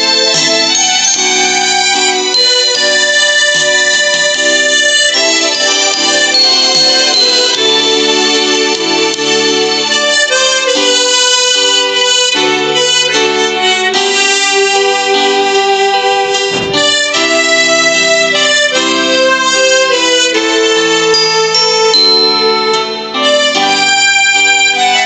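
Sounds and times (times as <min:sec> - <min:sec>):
tremolo harmonica melody: 0:00.0 - 0:25.0.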